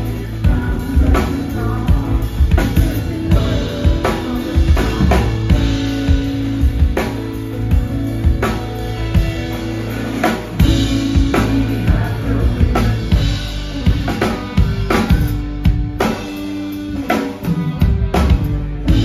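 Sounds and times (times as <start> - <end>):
bass: 0.0 - 19.0
drum kit beat: 0.0 - 19.0
guitar: 0.0 - 19.0
keyboards: 0.0 - 19.0.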